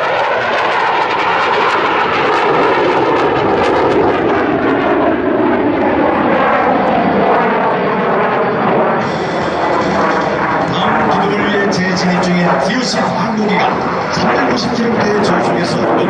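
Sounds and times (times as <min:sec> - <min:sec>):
jet engine flying past: 0:00.0 - 0:16.0.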